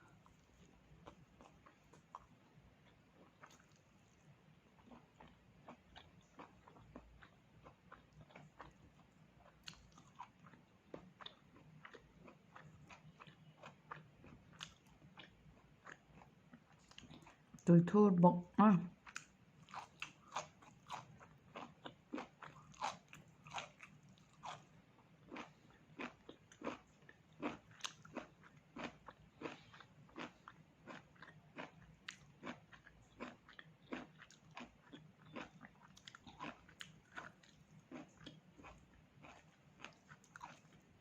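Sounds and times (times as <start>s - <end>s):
person chewing crunchily: 0.1s - 17.6s, 19.0s - 41.0s.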